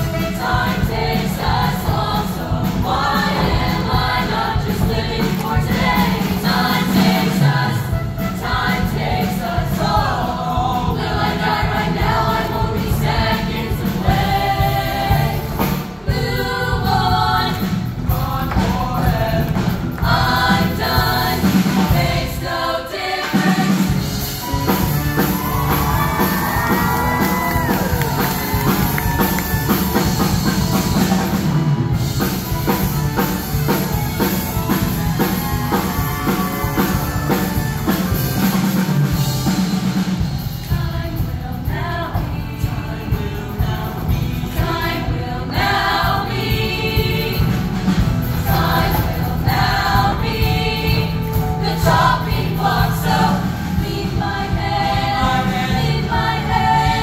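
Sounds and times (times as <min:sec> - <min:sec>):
choir singing: 0:00.0 - 0:57.0
live band playing: 0:00.0 - 0:57.0.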